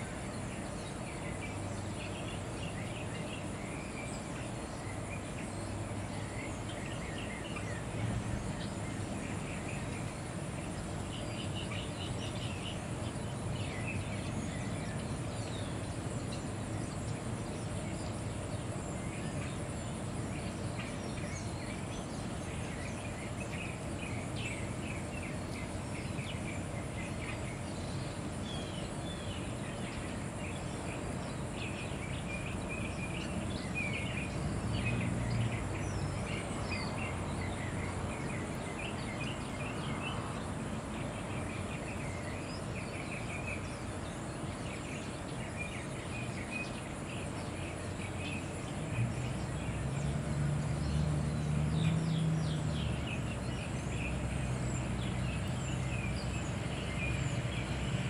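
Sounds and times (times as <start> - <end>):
sparrows chirping: 0.0 - 58.0
steady low background noise: 0.0 - 58.0.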